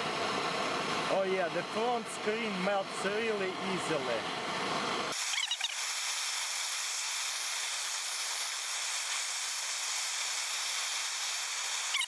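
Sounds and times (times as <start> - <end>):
blowtorch flame hissing: 0.0 - 12.0.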